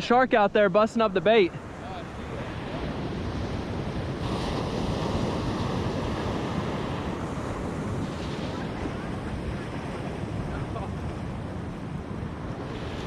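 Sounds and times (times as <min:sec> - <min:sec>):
ocean surf washing ashore: 0:00.0 - 0:13.0
wind on microphone: 0:01.5 - 0:13.0.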